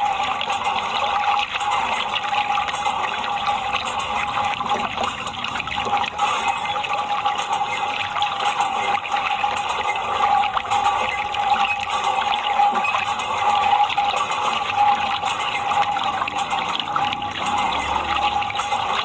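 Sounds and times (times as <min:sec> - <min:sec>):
hose water splashing: 0:00.0 - 0:19.0.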